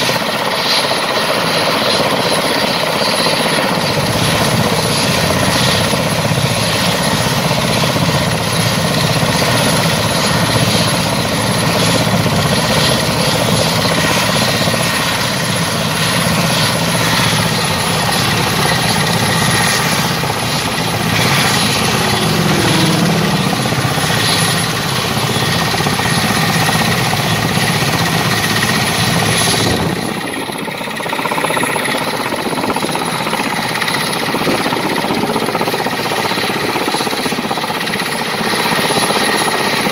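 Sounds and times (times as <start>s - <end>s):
thin high turbine whine: 0.0s - 35.2s
helicopter engines and rotors: 0.0s - 39.9s.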